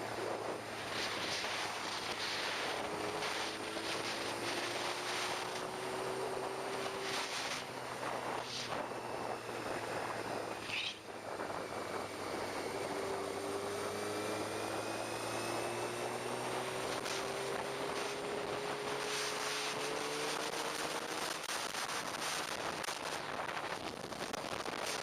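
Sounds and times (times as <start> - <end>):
motorcycle engine: 0.0 - 25.0.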